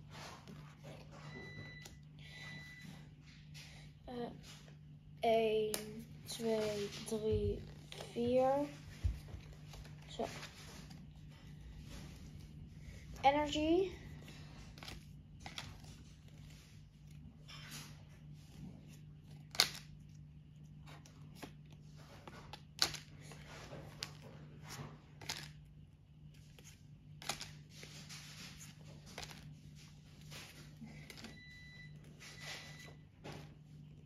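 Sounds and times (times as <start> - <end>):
low steady hum: 0.0 - 34.0
trading cards rustling and clicking: 5.6 - 34.0.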